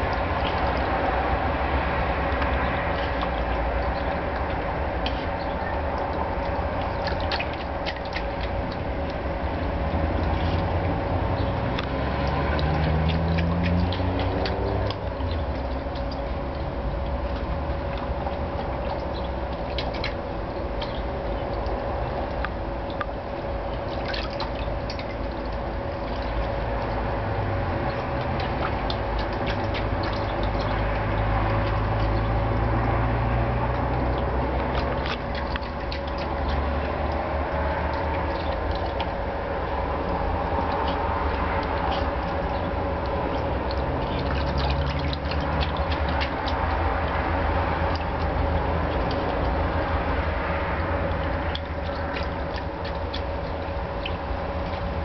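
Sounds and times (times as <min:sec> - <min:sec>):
dog splashing in water: 0:00.0 - 0:55.0
steady motor hum: 0:00.0 - 0:55.0
water dripping: 0:00.0 - 0:55.0.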